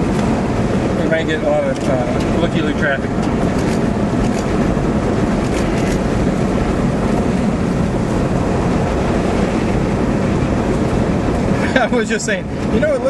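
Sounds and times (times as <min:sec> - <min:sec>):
car engine: 0:00.0 - 0:13.0
wind rushing past car: 0:00.0 - 0:13.0.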